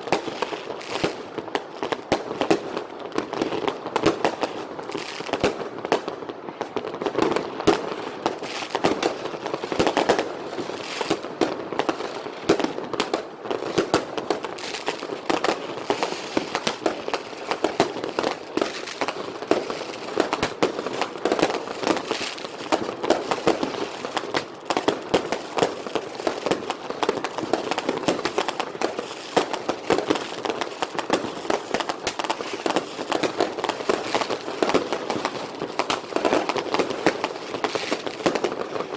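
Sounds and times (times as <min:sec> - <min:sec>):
fireworks and firecrackers popping: 0:00.0 - 0:38.9.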